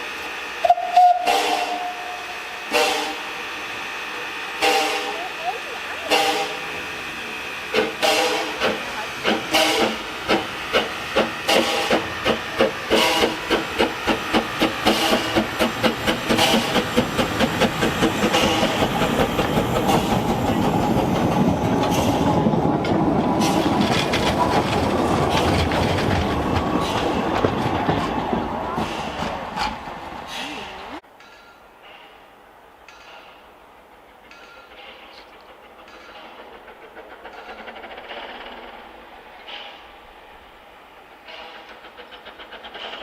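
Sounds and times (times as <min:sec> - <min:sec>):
steam locomotive chuffing: 0:00.0 - 0:43.0.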